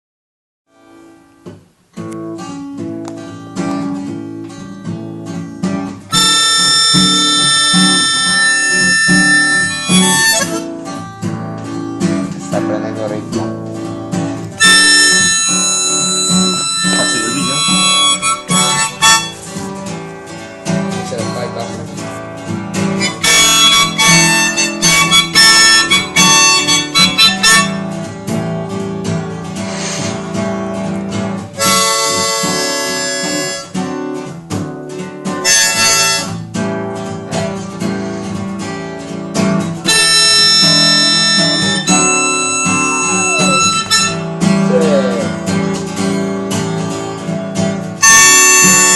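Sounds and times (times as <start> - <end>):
acoustic guitar accompaniment: 0.7 - 48.9
blues harmonica phrases: 5.8 - 20.4, 21.0 - 28.5, 29.4 - 38.8, 39.4 - 48.9.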